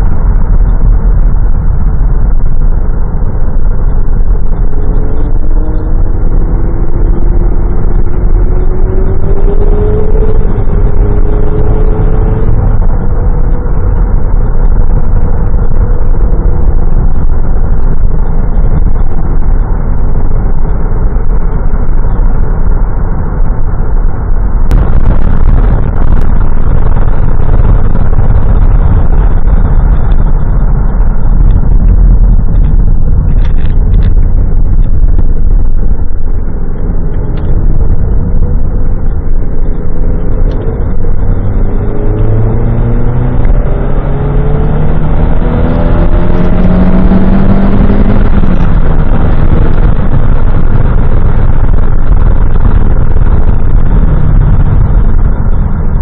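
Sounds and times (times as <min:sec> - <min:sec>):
car engine accelerating: 0:00.0 - 0:56.0
road noise inside car: 0:00.0 - 0:56.0.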